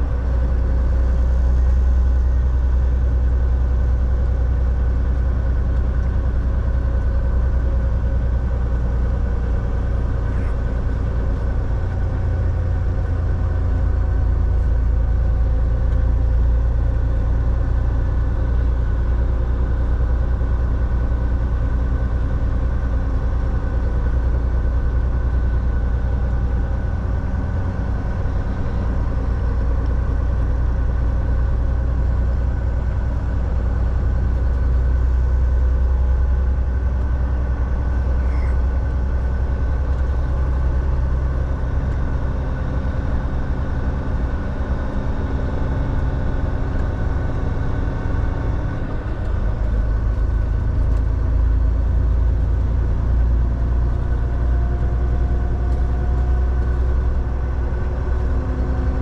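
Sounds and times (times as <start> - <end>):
truck diesel engine droning: 0.0 - 59.0.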